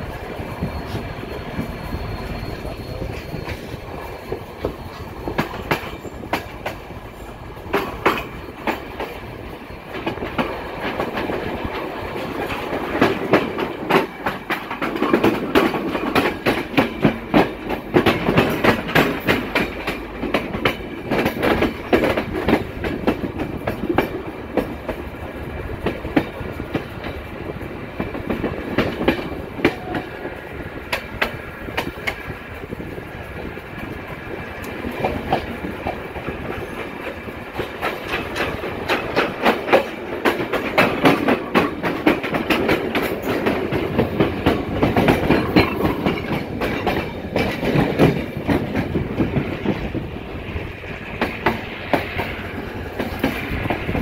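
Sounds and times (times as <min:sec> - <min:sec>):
train wheels clacking over rail joints: 0:00.0 - 0:54.0.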